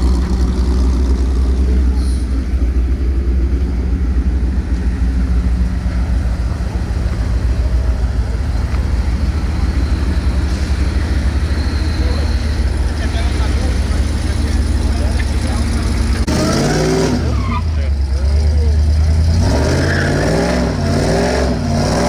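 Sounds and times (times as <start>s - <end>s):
car engine running steadily: 0.0s - 19.7s.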